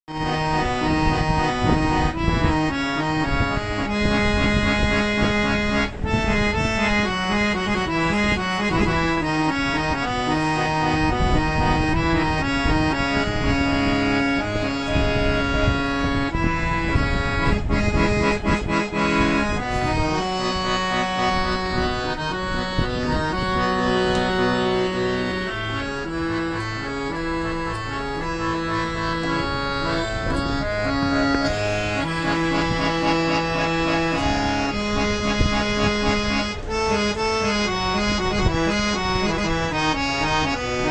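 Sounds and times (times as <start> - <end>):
harmonium melody: 0.0 - 40.9.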